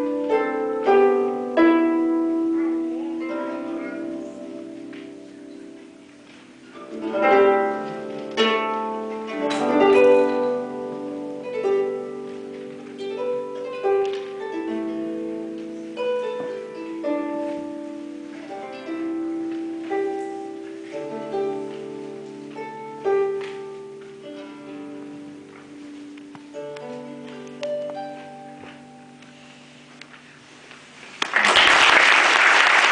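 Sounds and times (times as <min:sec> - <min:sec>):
harp melody: 0:00.0 - 0:31.2.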